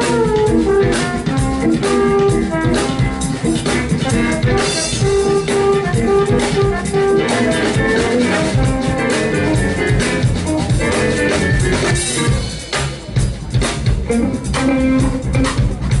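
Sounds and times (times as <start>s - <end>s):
drum kit: 0.0s - 16.0s
live jazz band playing: 0.0s - 16.0s.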